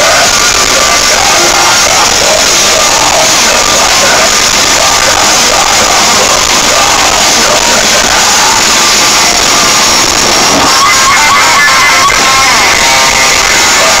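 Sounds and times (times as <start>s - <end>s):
metal band playing live: 0.0s - 14.0s
person singing: 0.0s - 14.0s.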